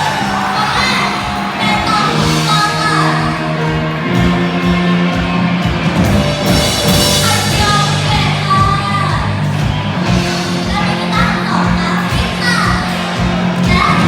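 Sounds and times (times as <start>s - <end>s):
crowd shouting: 0.0s - 14.0s
live rock band playing: 0.0s - 14.0s.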